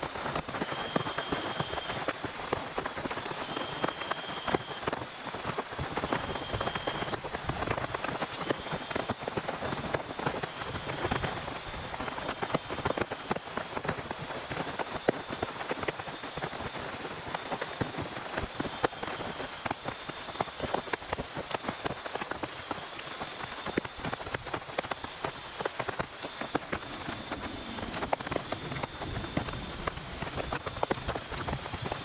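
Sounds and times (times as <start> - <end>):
heavy rain on a tent: 0.0 - 32.0.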